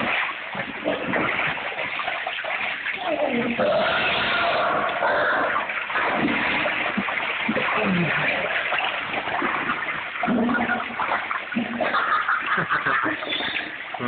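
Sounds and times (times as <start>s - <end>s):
water splashing from wading: 0.0s - 14.0s.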